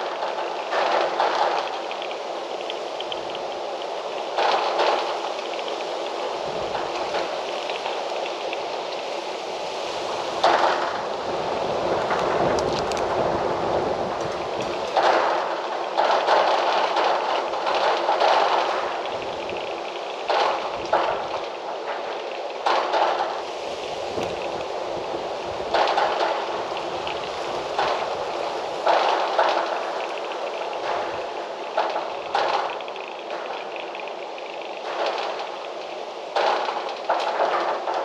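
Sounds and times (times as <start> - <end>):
wind gusting through trees: 0.0 - 38.0.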